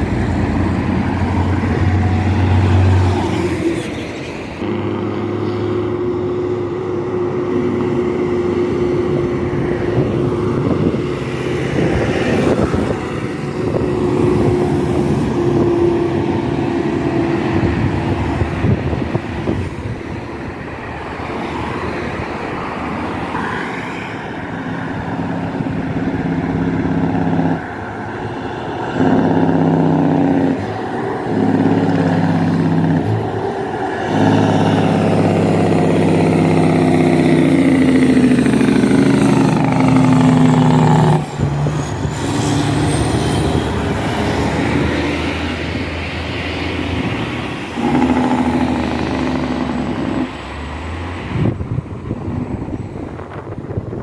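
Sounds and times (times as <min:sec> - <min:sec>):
highway traffic passing: 0:00.0 - 0:54.0
truck diesel engine passing: 0:00.0 - 0:54.0.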